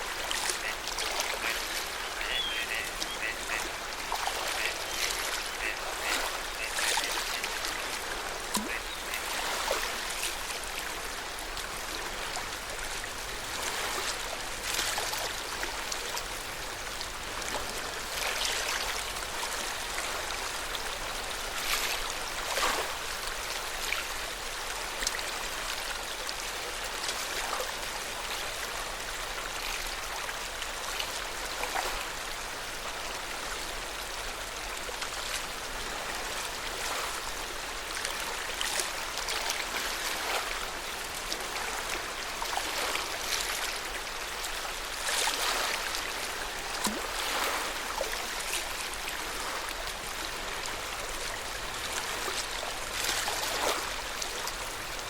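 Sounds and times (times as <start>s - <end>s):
water lapping at shore: 0.0s - 55.0s.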